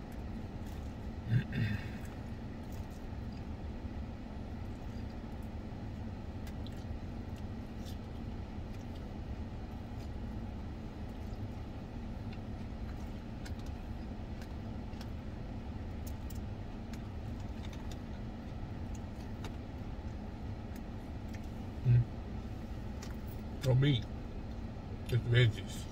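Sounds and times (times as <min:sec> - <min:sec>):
chewing crunches: 0:00.0 - 0:03.6, 0:04.6 - 0:21.8.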